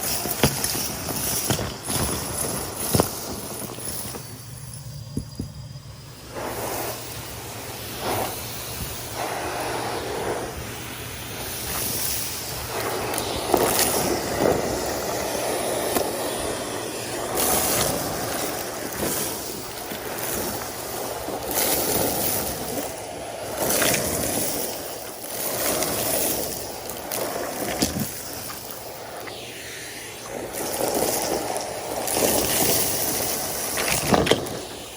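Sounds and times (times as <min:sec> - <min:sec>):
grit clicking up hose: 0:00.0 - 0:04.4, 0:06.3 - 0:29.6, 0:30.2 - 0:34.9
vacuum cleaner sucking debris: 0:00.0 - 0:34.9.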